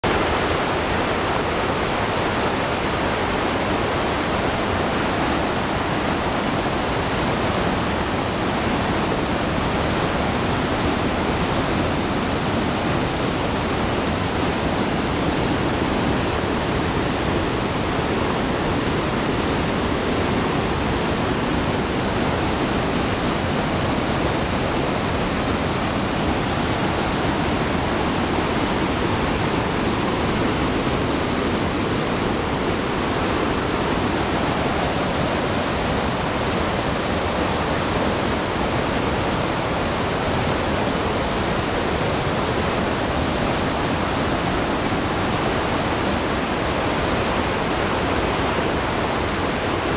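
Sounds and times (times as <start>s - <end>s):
whitewater rushing over falls: 0.0s - 49.9s.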